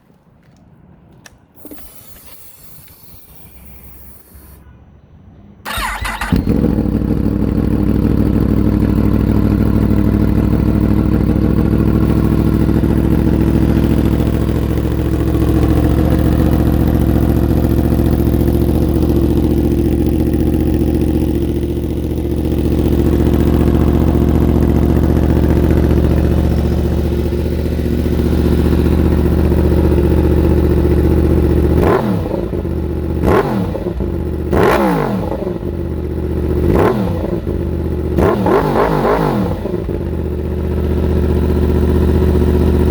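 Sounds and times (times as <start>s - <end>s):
motorcycle engine idling: 5.7s - 42.9s
motorcycle throttle revs: 5.7s - 42.9s.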